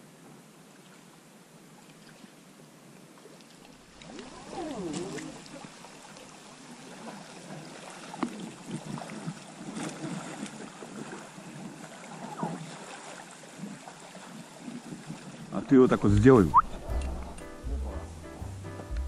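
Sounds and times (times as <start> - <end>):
water rippling: 0.7 - 19.0.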